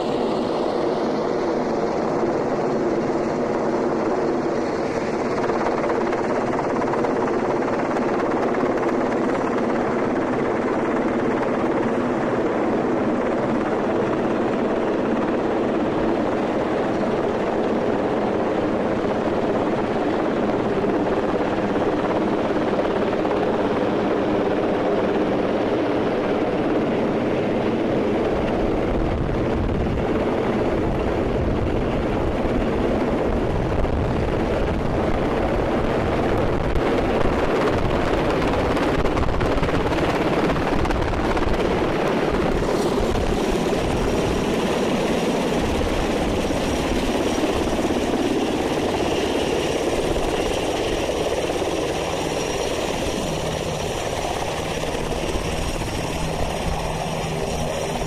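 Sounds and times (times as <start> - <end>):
helicopter rotor beating drone: 0.0 - 58.0.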